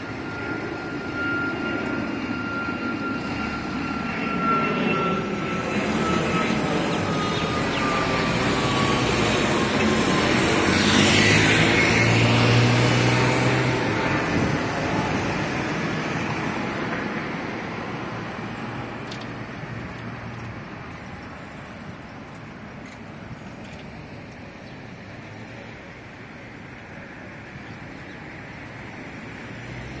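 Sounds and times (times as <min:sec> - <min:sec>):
jet airliner flying over: 0:00.0 - 0:30.0
road traffic noise: 0:00.0 - 0:30.0.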